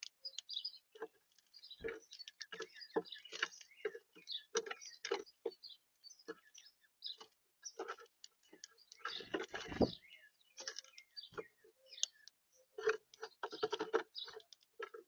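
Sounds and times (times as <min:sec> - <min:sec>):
birds pecking at seed: 0:00.0 - 0:15.0.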